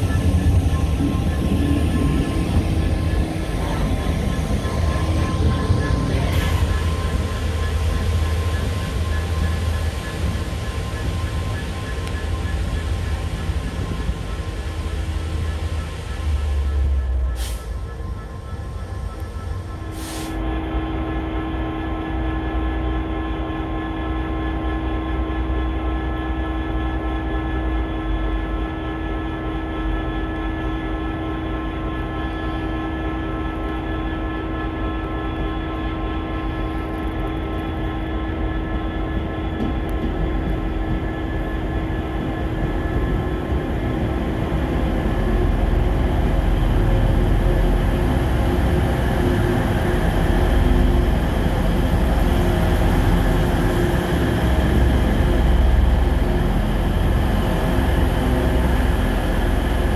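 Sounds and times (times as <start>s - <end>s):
train engine drone: 0.0s - 59.9s
train rumble: 0.0s - 59.9s.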